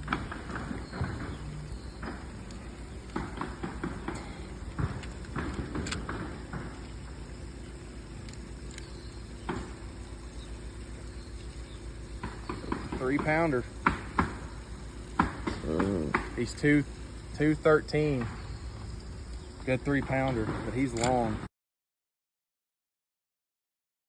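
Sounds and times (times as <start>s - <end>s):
handling clicks and rustles: 0.0s - 21.4s
steady low hum: 0.0s - 21.5s.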